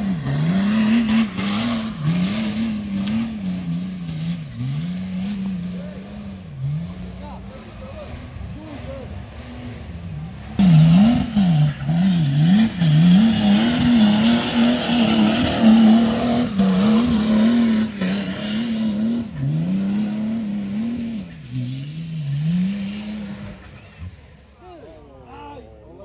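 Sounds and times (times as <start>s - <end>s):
engine revving hard: 0.0s - 24.4s.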